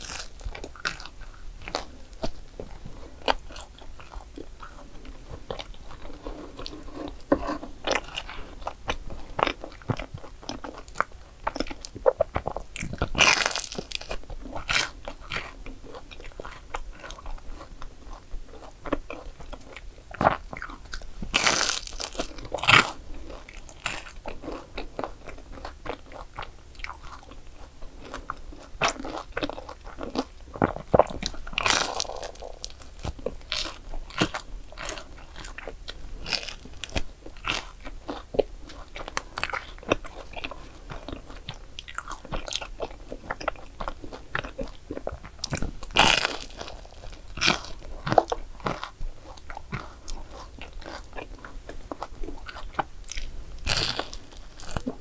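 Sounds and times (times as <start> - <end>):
crunching and chewing: 0.0 - 55.0.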